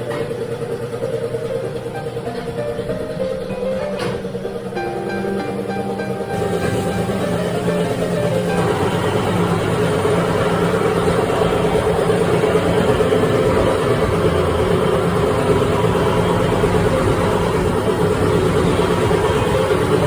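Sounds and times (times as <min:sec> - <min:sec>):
engine running loudly: 0:00.0 - 0:20.0.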